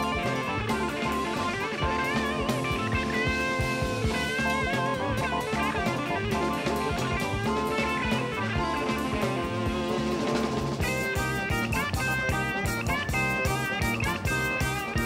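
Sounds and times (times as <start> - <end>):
drum kit: 0.0 - 15.0
electric guitar lead with vibrato: 0.0 - 15.0.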